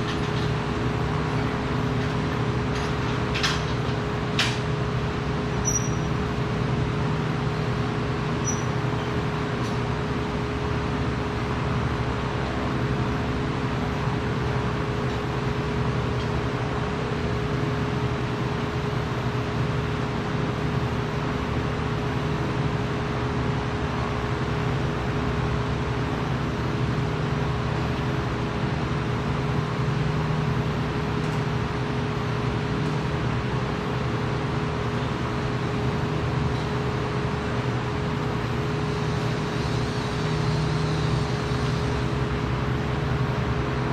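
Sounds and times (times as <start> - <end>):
workshop machinery drone: 0.0 - 43.9.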